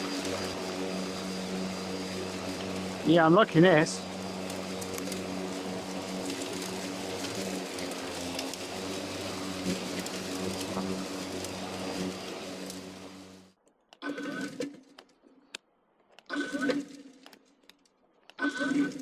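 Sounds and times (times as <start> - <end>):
lawn mower cutting grass: 0.0 - 14.8, 16.3 - 17.2, 18.4 - 19.0.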